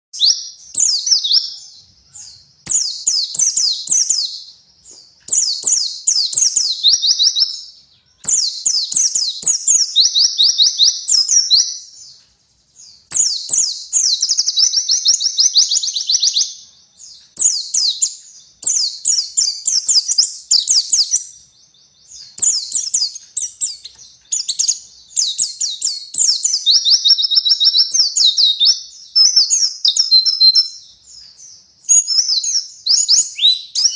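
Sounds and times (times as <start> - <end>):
bird twittering song: 0.1 - 33.9.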